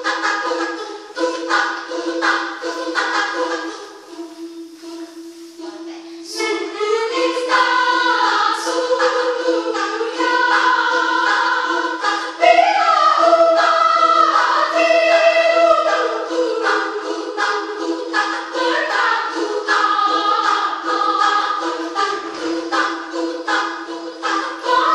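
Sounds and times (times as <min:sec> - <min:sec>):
women's choir singing: 0:00.0 - 0:24.9.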